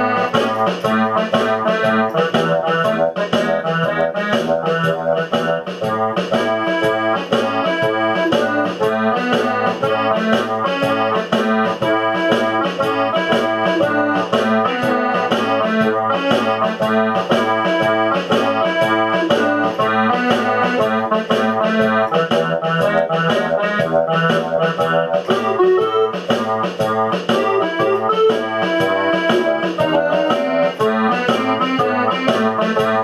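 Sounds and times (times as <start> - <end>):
instrumental keyboard music with beat: 0.0 - 33.0.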